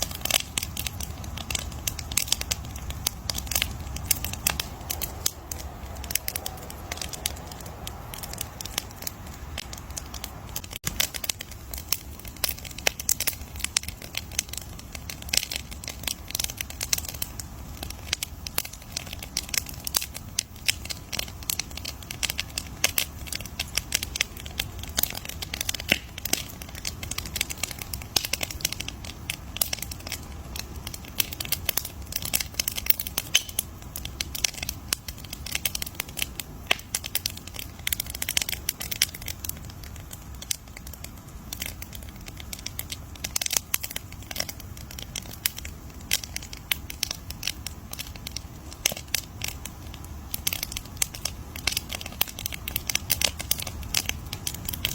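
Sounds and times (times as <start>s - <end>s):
campfire crackling and popping: 0.0s - 54.9s
steady low rumble: 0.0s - 54.9s.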